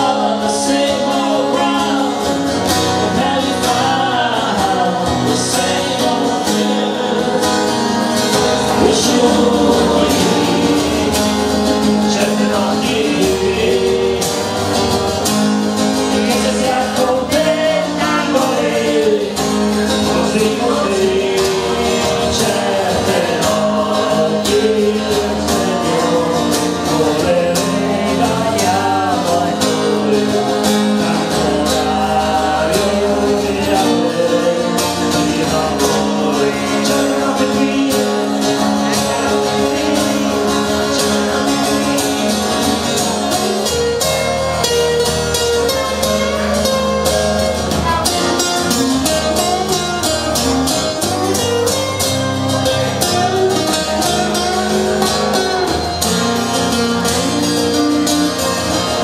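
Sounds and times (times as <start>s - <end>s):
acoustic guitars strummed: 0.0s - 59.0s
men singing: 0.0s - 59.0s.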